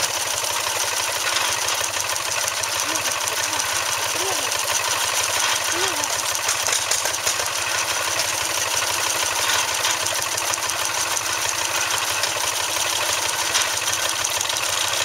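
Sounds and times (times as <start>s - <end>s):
steam engine machinery running: 0.0s - 15.0s.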